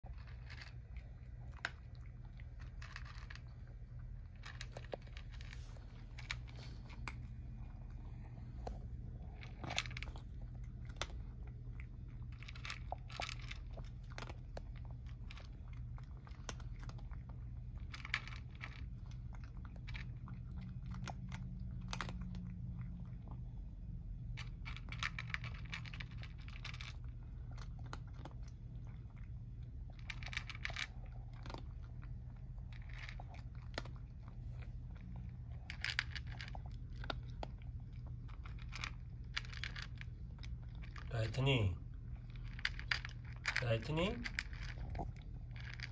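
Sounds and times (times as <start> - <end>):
cat crunching dry kibble: 0.0 - 45.9
low steady hum: 0.0 - 45.9.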